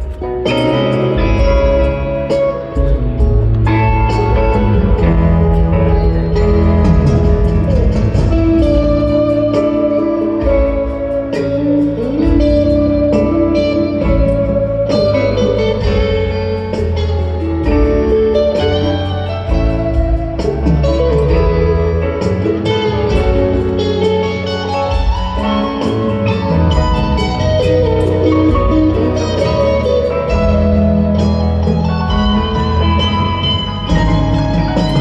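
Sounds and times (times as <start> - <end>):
bass guitar: 0.0 - 35.0
drums: 0.0 - 35.0
electric guitar lead with bends: 0.0 - 35.0.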